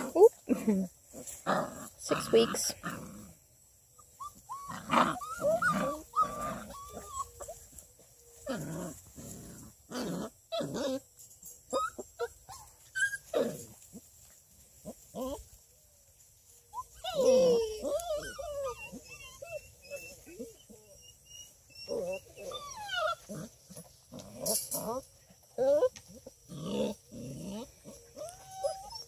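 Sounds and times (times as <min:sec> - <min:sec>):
puppies whining and yipping: 0:03.8 - 0:29.0.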